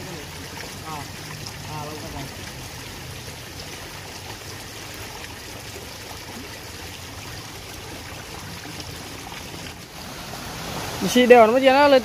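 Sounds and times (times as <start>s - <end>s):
small stream flowing: 0.0s - 12.0s.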